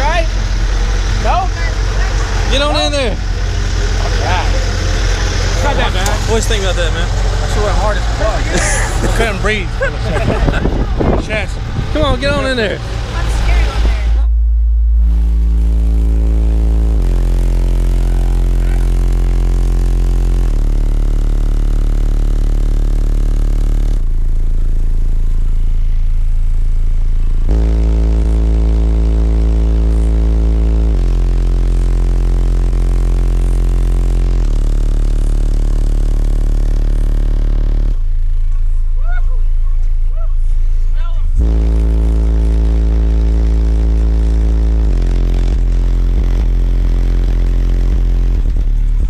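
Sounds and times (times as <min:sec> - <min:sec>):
loud subwoofer bass notes: 0:00.0 - 0:49.0.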